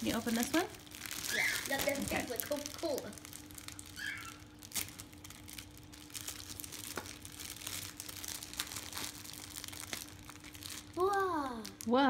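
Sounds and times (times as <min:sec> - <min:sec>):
package wrapping crinkling: 0:00.0 - 0:12.0.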